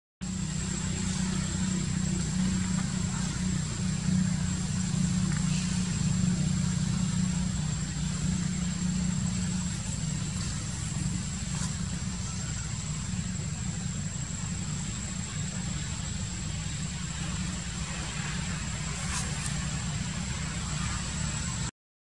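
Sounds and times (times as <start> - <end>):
high-pitched whine: 0.2 - 21.7
low engine rumble: 0.2 - 21.7.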